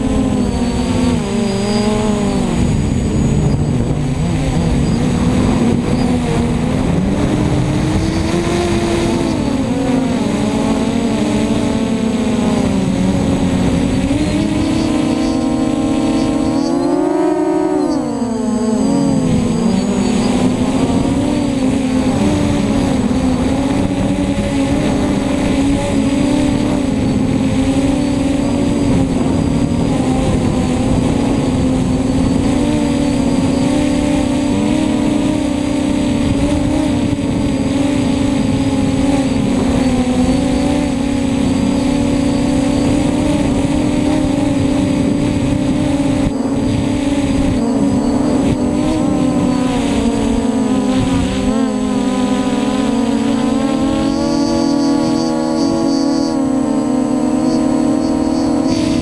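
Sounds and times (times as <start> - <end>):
quadcopter motors whining: 0.0 - 59.0.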